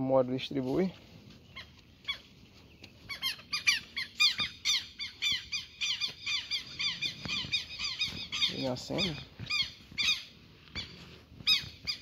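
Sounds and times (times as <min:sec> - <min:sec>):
bird alarm calls: 0:01.4 - 0:12.0.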